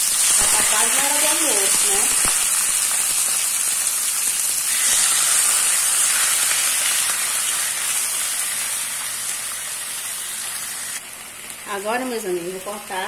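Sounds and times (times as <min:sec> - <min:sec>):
steaks sizzling in hot oil: 0:00.0 - 0:13.0.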